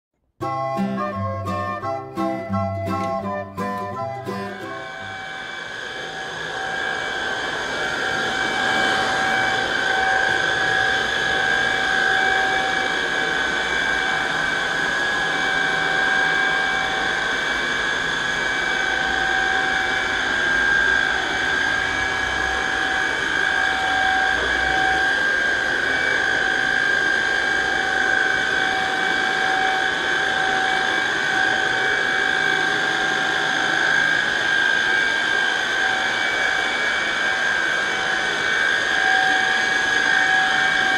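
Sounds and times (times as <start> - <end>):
vacuum cleaner whining: 0.4 - 40.9.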